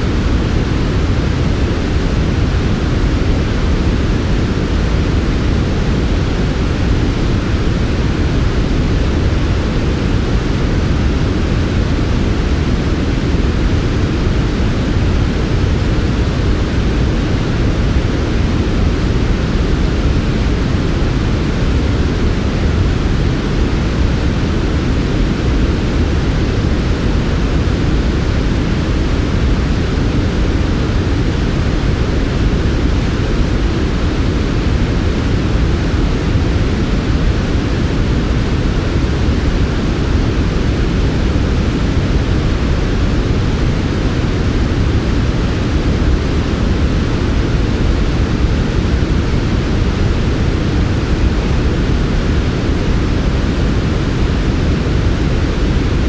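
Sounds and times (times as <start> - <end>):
low synthesized noise hiss: 0.0 - 56.0.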